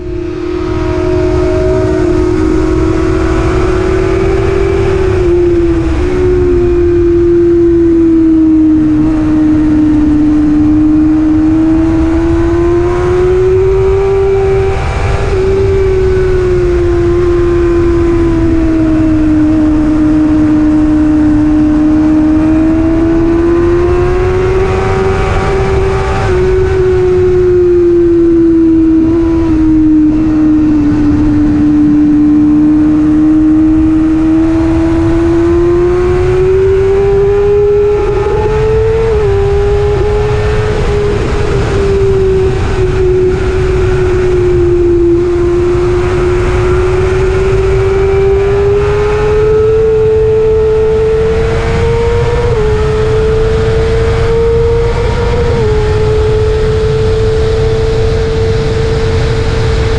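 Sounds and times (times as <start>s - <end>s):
motorcycle engine at high revs: 0.0s - 59.9s
wind rush on microphone: 0.0s - 59.9s.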